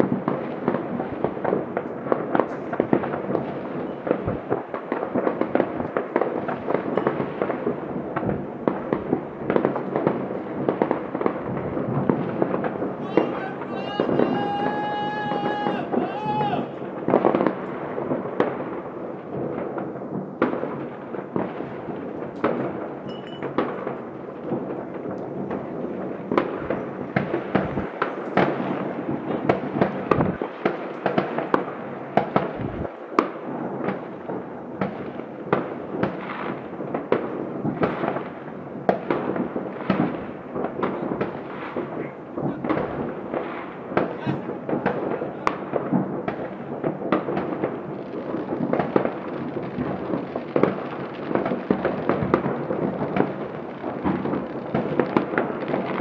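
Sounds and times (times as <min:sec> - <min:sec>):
fireworks bangs and pops: 0:00.0 - 0:56.0.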